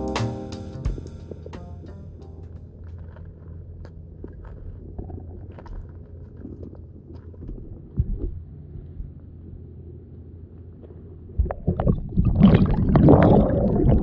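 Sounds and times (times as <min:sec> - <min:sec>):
underwater water rumble: 0:02.4 - 0:14.0.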